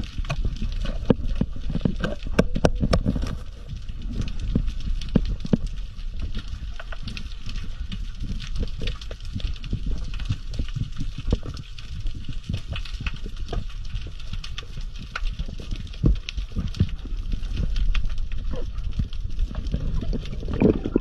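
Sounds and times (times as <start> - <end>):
underwater rumble of moving water: 0.0 - 21.0.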